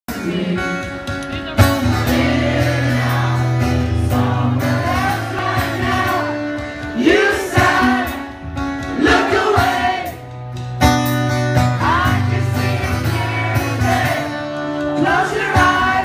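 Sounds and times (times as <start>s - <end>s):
rock band playing live: 0.1s - 16.0s.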